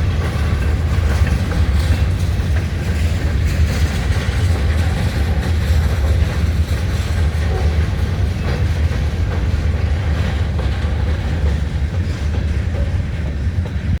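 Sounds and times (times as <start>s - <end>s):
train cars rumbling past: 0.0s - 14.0s.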